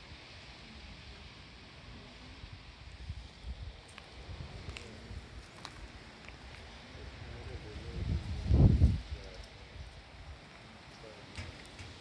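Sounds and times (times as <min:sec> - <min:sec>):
faint outdoor hiss: 0:00.0 - 0:12.0
low uneven rumble: 0:00.0 - 0:12.0.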